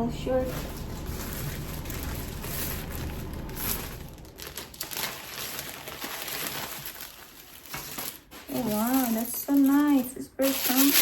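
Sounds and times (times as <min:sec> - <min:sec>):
packaging crinkling: 0:00.4 - 0:11.0.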